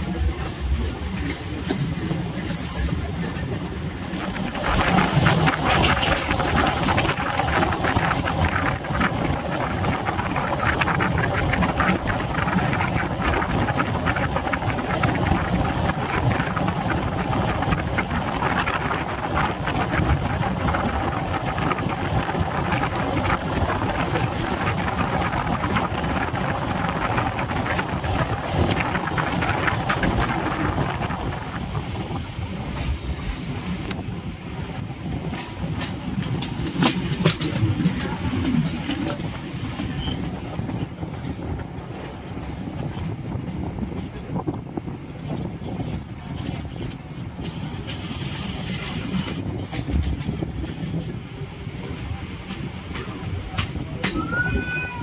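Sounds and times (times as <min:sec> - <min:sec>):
train rumble and rushing air: 0:00.0 - 0:55.0
wheels clicking on track: 0:00.0 - 0:55.0.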